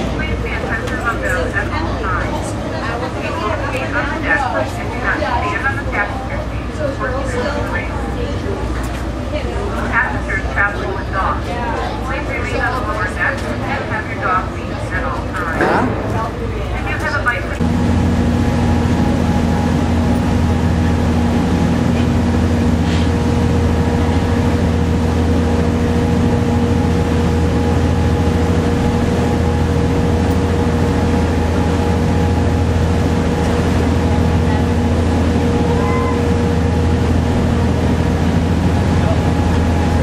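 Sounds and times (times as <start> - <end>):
ferry engines droning: 0.0 - 40.0.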